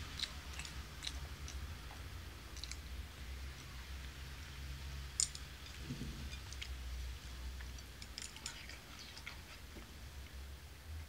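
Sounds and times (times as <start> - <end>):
faint chewing: 0.0 - 4.1, 5.2 - 10.4.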